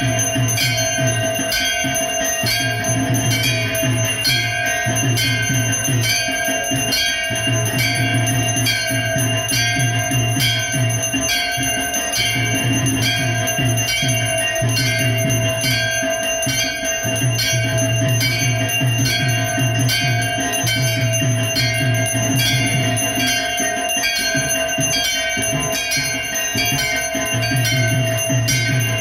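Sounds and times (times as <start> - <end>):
brass bells struck: 0.0 - 29.0.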